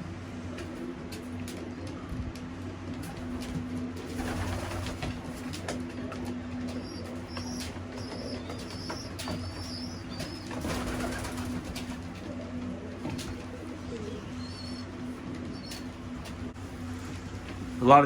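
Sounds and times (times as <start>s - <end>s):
steady low hum: 0.0s - 18.0s
pigeons clicking and tapping: 0.1s - 17.6s.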